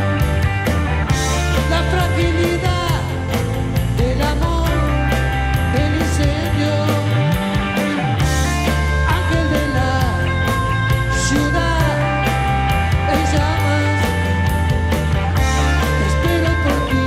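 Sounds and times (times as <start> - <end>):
bass guitar: 0.0 - 17.0
drum kit steady beat: 0.0 - 17.0
electric guitars: 0.0 - 17.0.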